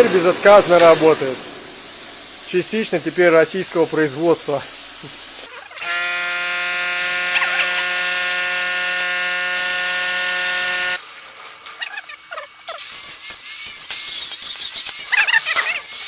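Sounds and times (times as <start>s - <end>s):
plasma cutter buzzing hiss: 0.0s - 16.0s.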